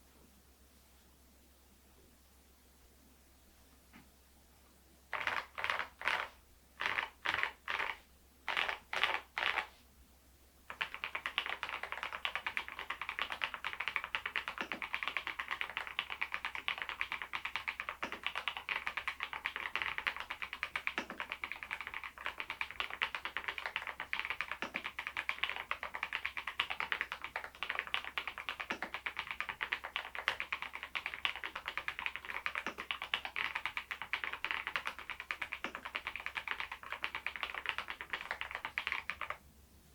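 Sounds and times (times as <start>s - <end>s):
mechanical keyboard typing: 5.2s - 9.6s, 10.7s - 39.4s.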